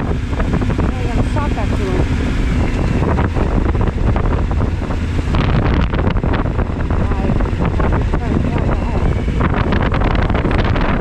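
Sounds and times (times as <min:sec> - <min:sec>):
motorcycle road and engine noise: 0:00.0 - 0:11.0
wind rushing over microphone: 0:00.0 - 0:11.0.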